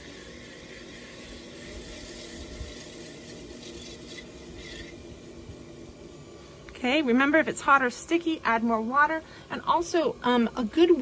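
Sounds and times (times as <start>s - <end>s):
potter's wheel motor hum: 0.0s - 11.0s.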